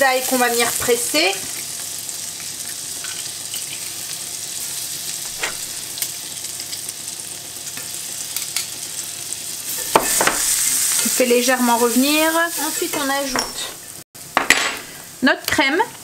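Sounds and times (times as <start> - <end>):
butter sizzling in a skillet: 0.0 - 16.0.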